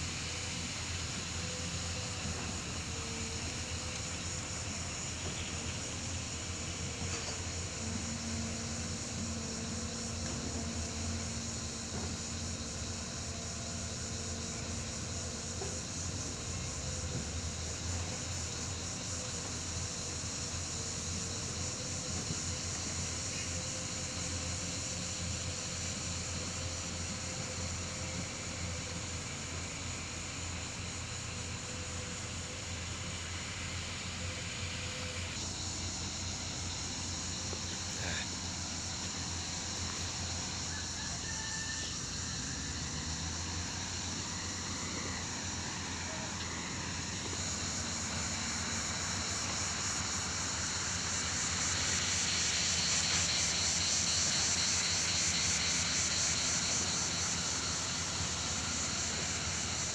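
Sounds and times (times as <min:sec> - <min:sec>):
engine droning: 0:00.0 - 0:59.9
high steady hiss: 0:00.0 - 0:59.9.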